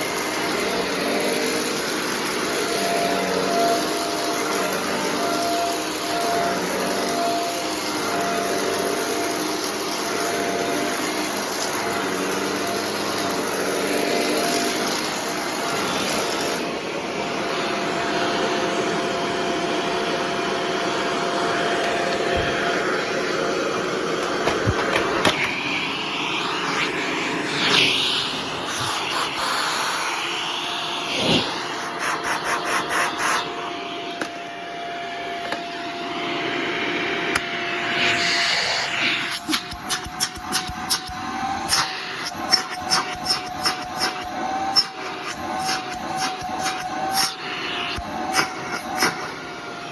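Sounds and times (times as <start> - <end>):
vacuum cleaner running with whine: 0.0 - 49.9.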